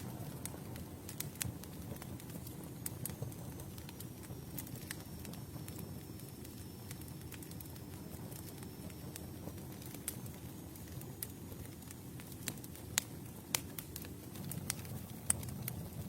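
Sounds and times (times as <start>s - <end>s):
campfire flames rumbling: 0.0s - 16.0s
fire crackling and popping: 0.0s - 16.0s.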